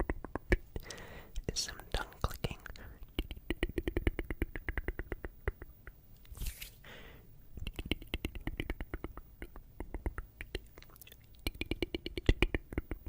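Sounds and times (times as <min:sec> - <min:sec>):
tongue clicking: 0:00.0 - 0:01.1, 0:02.2 - 0:06.3, 0:07.6 - 0:13.0
soft hiss: 0:00.0 - 0:13.0.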